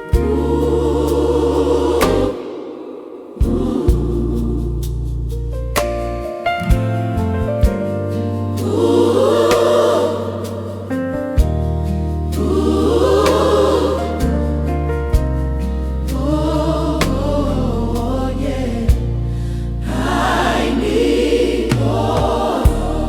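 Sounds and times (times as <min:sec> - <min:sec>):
bass line: 0:00.0 - 0:02.3, 0:03.4 - 0:23.0
gospel choir singing: 0:00.0 - 0:23.0.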